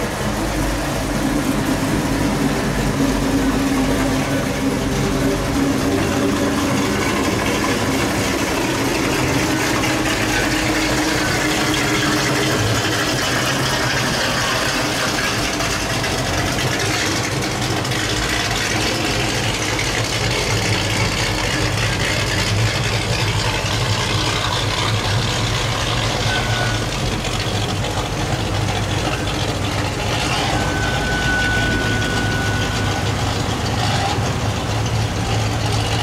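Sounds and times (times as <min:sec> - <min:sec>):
car engine running at low speed: 0:00.0 - 0:36.0.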